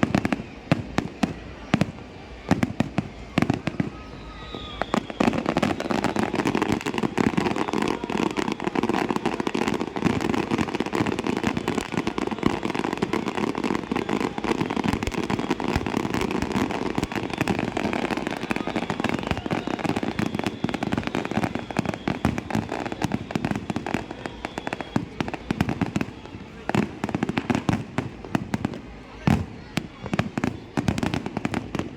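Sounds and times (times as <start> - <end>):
fireworks bangs and crackle: 0.0 - 31.9.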